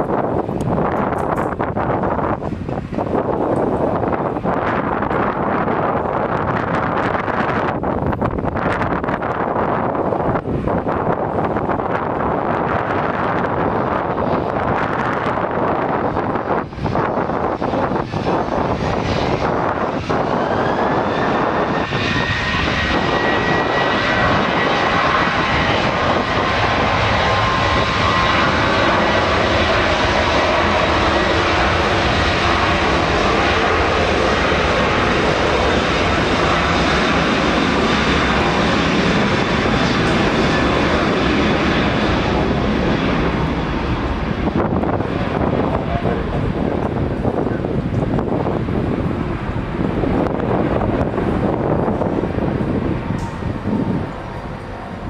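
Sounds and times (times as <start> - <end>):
jet rush: 0.0 - 55.0
jet engines spooling up: 0.1 - 55.0.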